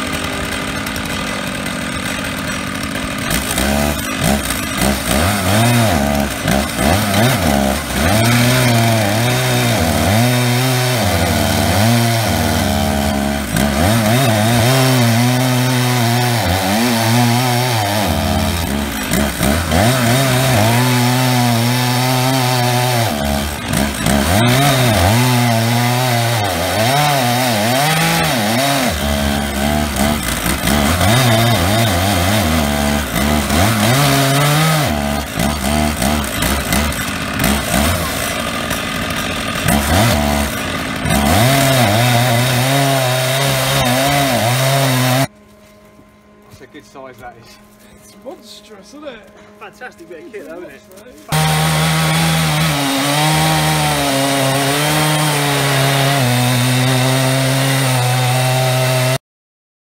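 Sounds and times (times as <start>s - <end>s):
chainsaws cutting log: 0.0s - 45.3s, 46.6s - 59.2s.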